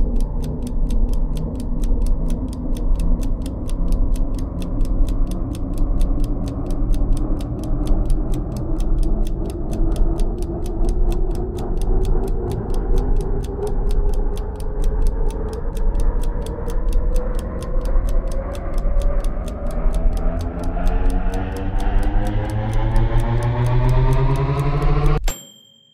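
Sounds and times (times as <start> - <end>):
low hum rising in pitch: 0.0 - 25.2
stopwatch ticking: 0.0 - 25.4.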